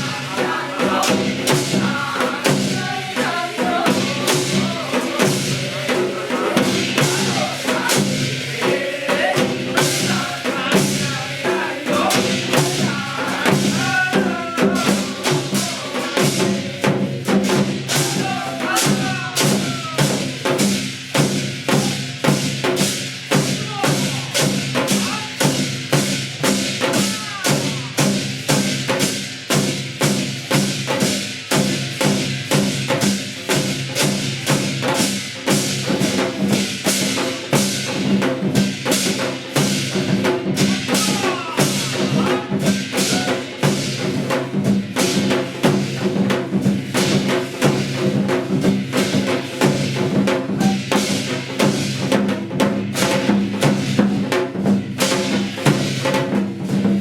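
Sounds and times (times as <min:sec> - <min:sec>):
percussion beating steady rhythm: 0:00.0 - 0:57.0.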